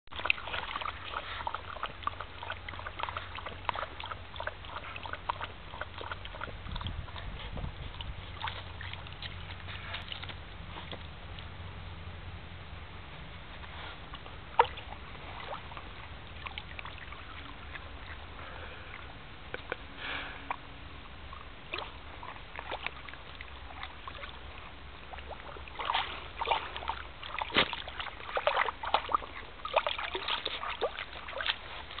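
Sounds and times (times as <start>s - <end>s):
dog splashing through water: 0.1s - 11.2s, 14.1s - 19.0s, 21.3s - 32.0s.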